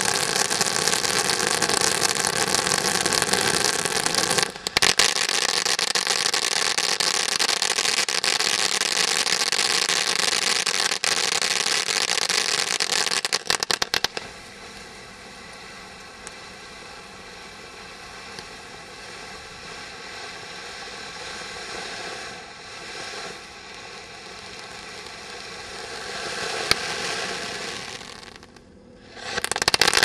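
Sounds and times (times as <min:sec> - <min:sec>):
firework fountain hissing and crackling: 0:00.0 - 0:30.0.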